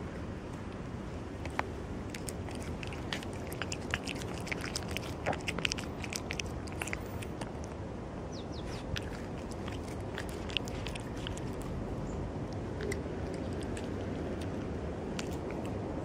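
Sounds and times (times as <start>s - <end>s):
low background rumble: 0.0s - 16.0s
cat chewing wet food: 1.4s - 7.8s, 8.6s - 16.0s.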